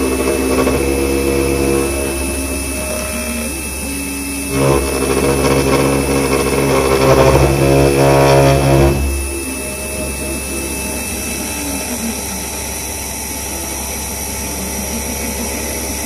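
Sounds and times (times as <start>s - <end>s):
milling machine spindle whine: 0.0s - 16.0s.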